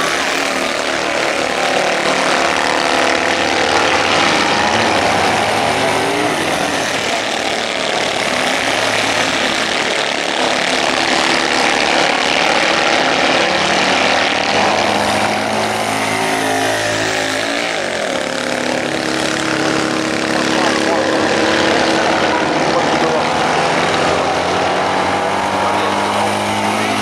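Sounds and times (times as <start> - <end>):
car passing close: 0.0 - 27.0
racing car engines buzzing: 0.0 - 27.0.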